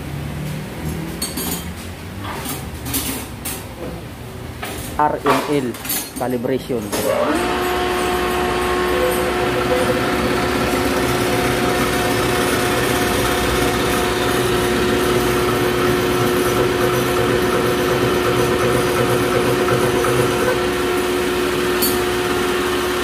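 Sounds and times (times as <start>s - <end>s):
test bench hum and whirr: 0.0s - 23.0s.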